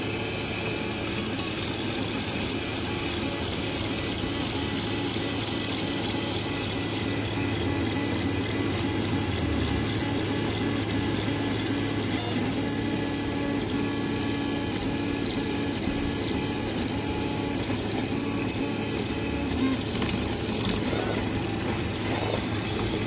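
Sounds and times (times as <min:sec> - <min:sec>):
stepper motors humming: 0:00.0 - 0:23.0.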